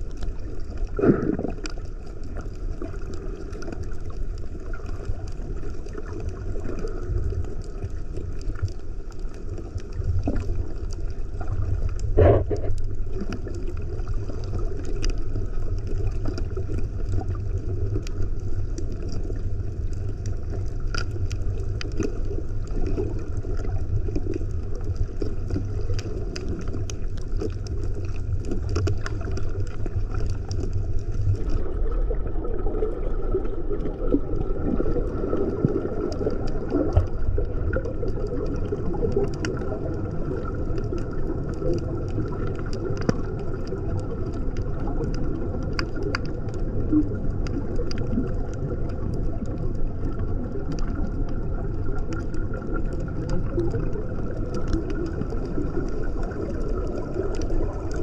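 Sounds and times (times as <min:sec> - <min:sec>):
bubbling gurgle: 0:00.0 - 0:58.0
faint crackling clicks: 0:00.0 - 0:58.0
low underwater rumble: 0:00.0 - 0:58.0.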